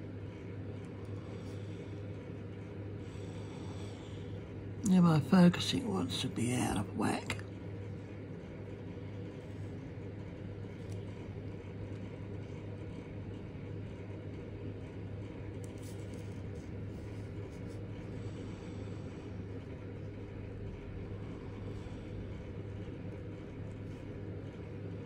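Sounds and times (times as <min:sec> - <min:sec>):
low background hum and rumble: 0:00.0 - 0:25.0.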